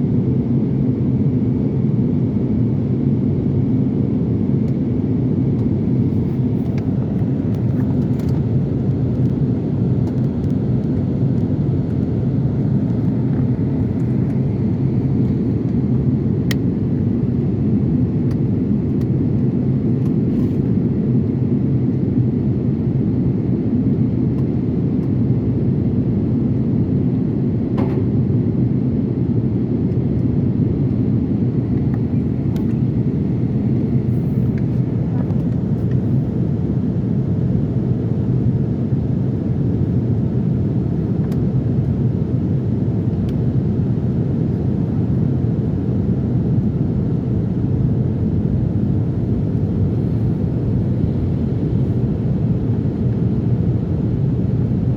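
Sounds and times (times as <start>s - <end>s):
airliner cabin rumble: 0.1s - 54.9s.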